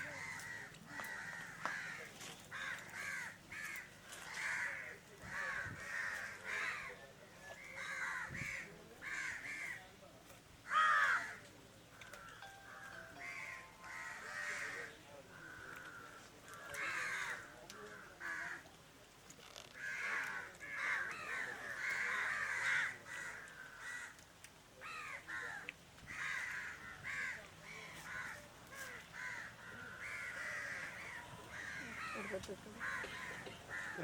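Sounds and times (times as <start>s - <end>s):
crows cawing: 0.0s - 9.8s, 10.6s - 18.7s, 19.8s - 34.0s.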